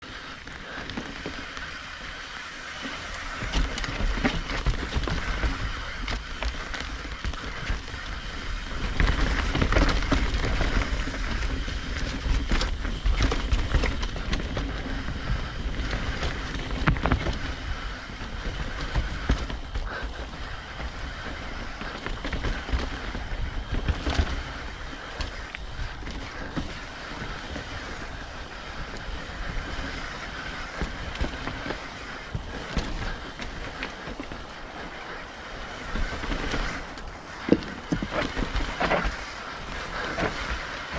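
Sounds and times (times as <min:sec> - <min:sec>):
bike knocking and rattling: 0:00.0 - 0:40.9
bike tyres on dirt and rocks: 0:00.0 - 0:40.9
wind rumble on microphone: 0:00.0 - 0:40.9.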